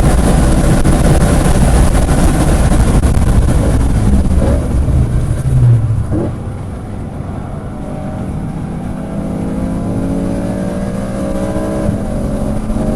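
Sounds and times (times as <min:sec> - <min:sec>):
car engine revving: 0:00.0 - 0:12.9.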